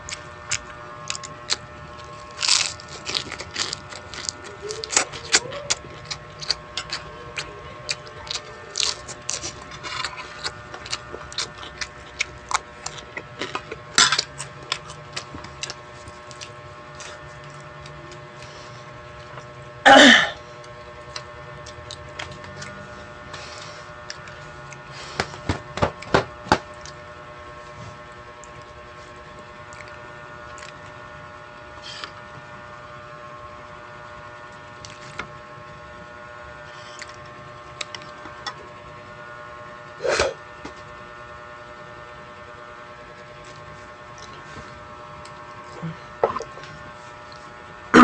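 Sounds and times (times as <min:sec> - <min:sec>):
electrical hum: 0:00.0 - 0:48.0.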